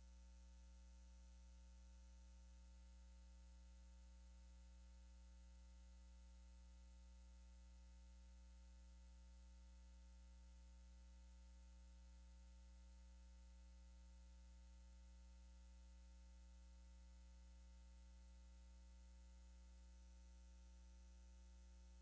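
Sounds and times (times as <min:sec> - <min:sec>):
faint low electrical hum: 0:00.0 - 0:22.0.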